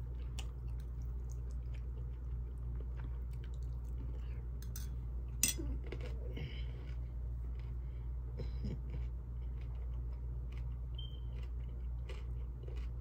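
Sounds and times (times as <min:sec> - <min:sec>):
person chewing: 0:00.0 - 0:04.7, 0:05.6 - 0:07.8, 0:08.4 - 0:13.0.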